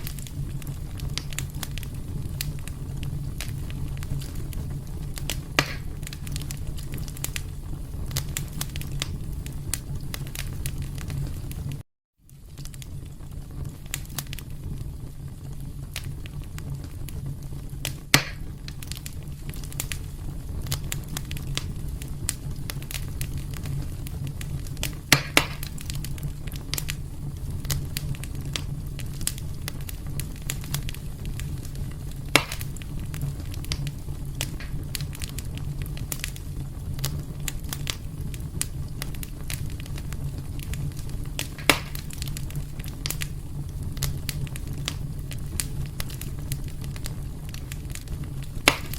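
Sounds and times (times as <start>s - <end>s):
low rumble of flames: 0.0s - 48.9s
sharp pops of fire: 0.0s - 48.9s
wood fire crackling: 0.0s - 48.9s.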